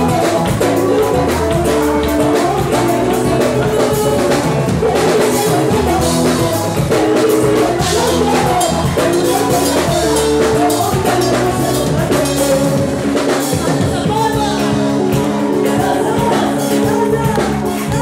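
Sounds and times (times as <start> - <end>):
drum kit: 0.0 - 18.0
electric guitar: 0.0 - 18.0
woman singing into microphone: 0.0 - 18.0.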